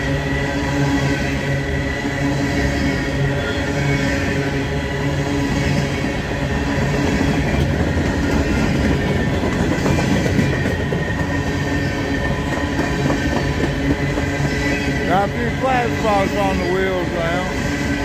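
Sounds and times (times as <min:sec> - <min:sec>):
freight train rumbling past: 0:00.0 - 0:18.0
wheels clacking on rails: 0:00.0 - 0:18.0.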